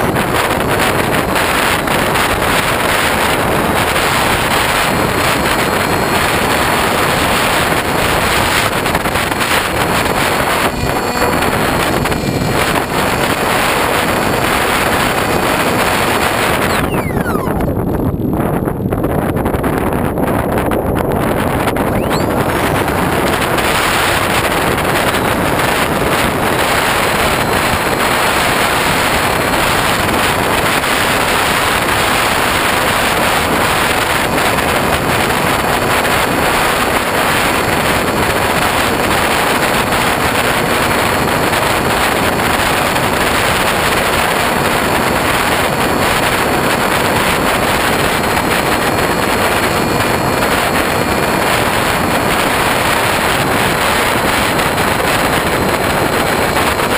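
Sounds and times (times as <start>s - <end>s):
wind and propeller noise: 0.0s - 56.9s.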